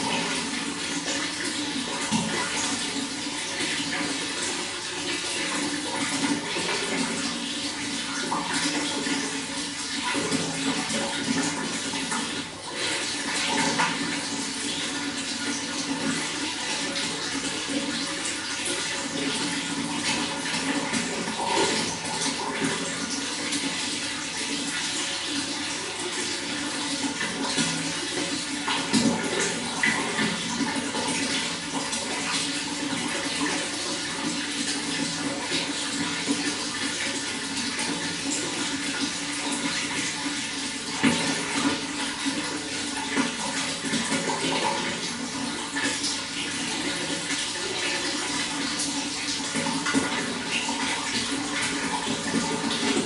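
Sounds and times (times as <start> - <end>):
running water flowing: 0.0 - 53.0.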